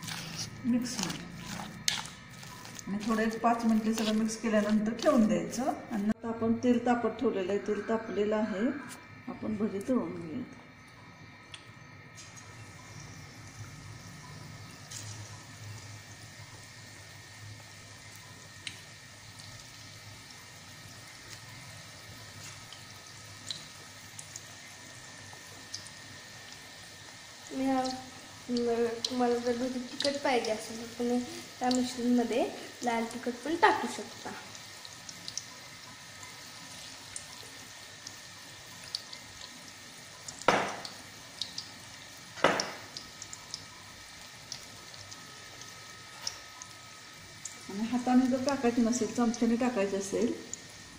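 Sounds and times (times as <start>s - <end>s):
oil crackles and pops: 0.0s - 5.8s, 14.2s - 50.9s
batter sizzling in hot oil: 0.0s - 6.2s, 11.8s - 50.9s.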